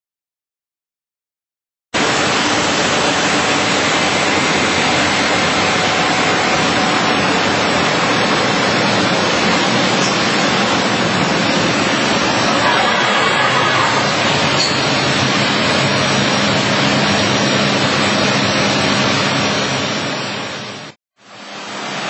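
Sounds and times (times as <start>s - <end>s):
dust extraction rushing air: 2.0s - 20.4s.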